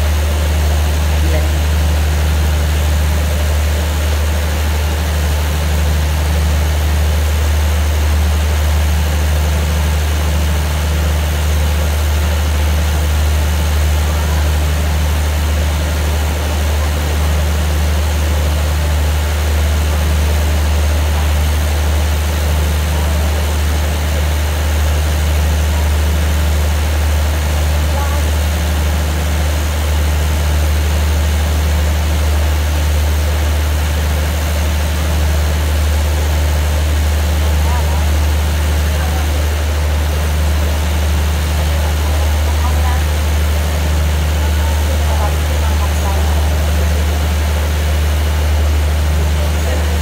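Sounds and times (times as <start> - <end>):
diesel train idling: 0.0 - 50.0.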